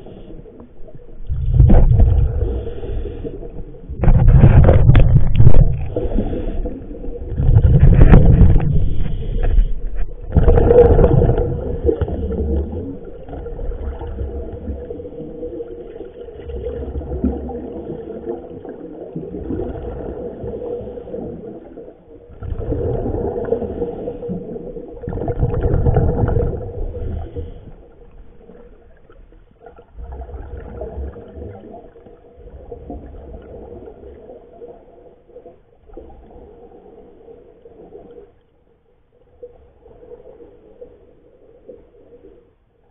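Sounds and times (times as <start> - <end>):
faint underwater hum: 0.0 - 42.9
underwater bubbles rumbling: 0.0 - 42.9.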